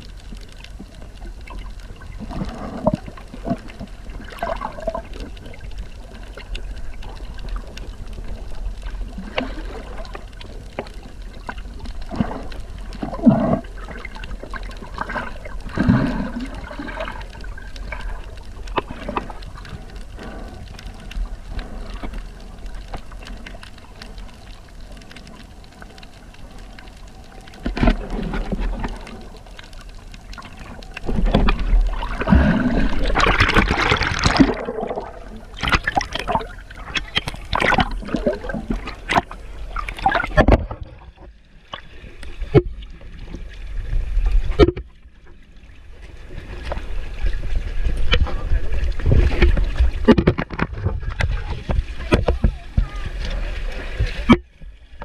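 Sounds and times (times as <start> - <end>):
sea water splashing and gurgling: 0.0 - 55.0.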